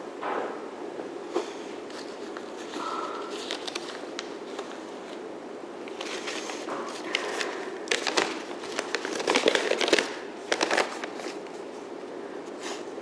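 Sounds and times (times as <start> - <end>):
rustling and handling: 1.4 - 12.9.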